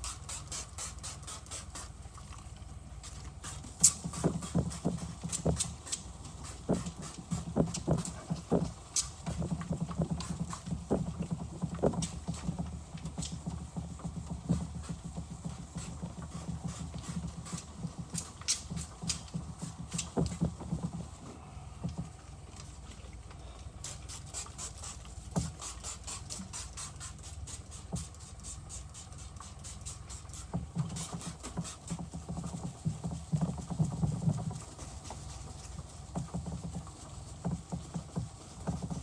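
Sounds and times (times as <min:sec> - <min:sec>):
sandpaper rubbing on plastic: 0:00.0 - 0:02.0, 0:03.0 - 0:21.1, 0:23.8 - 0:39.0.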